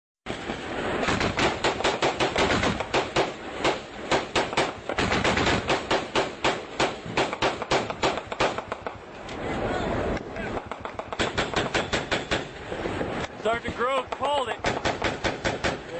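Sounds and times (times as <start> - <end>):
rapid gunfire: 0.3 - 9.0, 10.5 - 12.8, 13.9 - 15.9.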